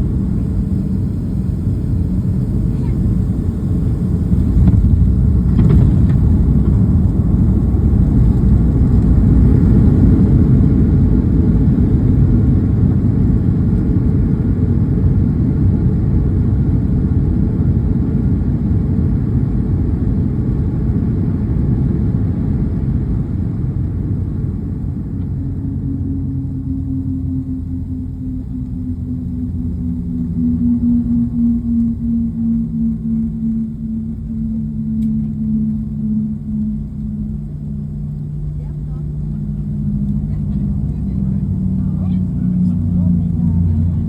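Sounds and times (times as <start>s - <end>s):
aircraft engines and airflow rumble: 0.0s - 44.0s.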